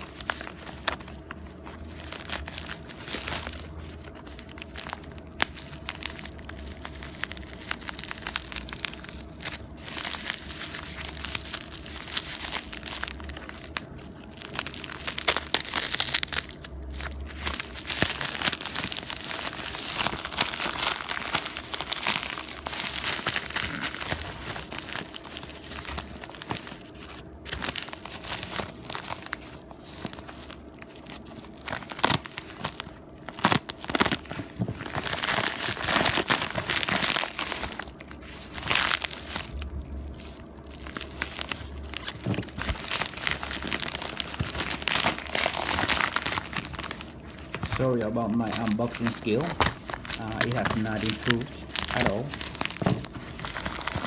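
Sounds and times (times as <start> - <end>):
mailer being torn open: 0.0 - 54.0
plastic mailer crinkling: 0.0 - 54.0.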